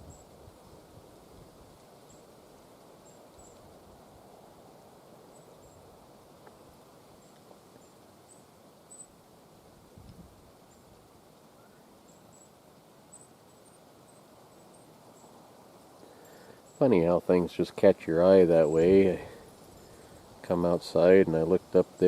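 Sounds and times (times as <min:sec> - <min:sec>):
soft rushing outdoor haze: 0:00.0 - 0:22.0.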